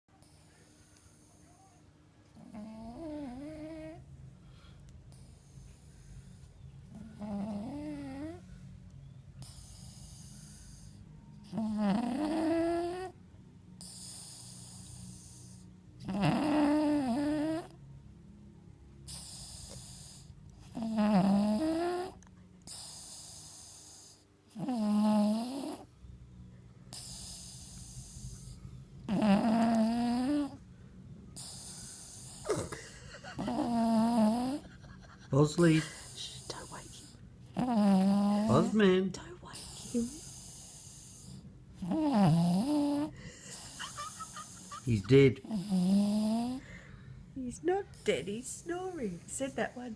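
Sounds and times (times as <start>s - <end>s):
dog snoring: 0.1s - 4.1s, 5.1s - 17.8s, 19.0s - 26.0s, 26.9s - 30.6s, 31.3s - 49.9s
dog breathing: 2.4s - 17.7s, 19.0s - 25.9s, 26.8s - 49.9s.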